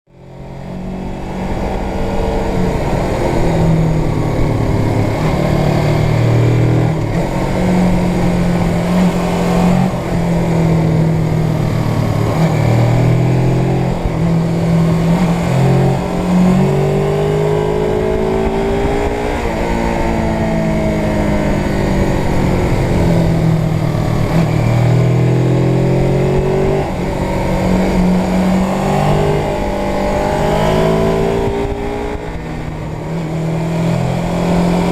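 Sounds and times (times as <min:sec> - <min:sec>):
motorcycle engine running: 0:00.1 - 0:34.9
wind rumble on microphone: 0:00.6 - 0:34.9.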